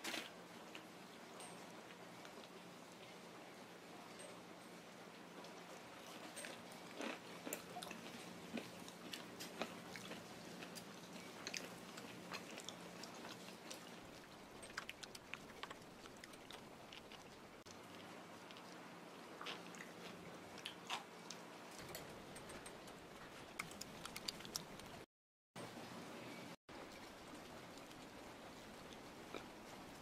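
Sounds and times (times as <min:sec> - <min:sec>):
person chewing softly: 0:00.1 - 0:25.1, 0:26.7 - 0:30.0.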